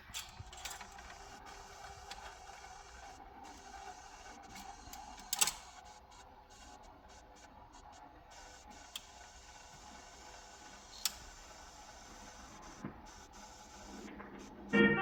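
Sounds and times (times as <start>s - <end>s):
record hiss and crackle: 0.0s - 15.0s.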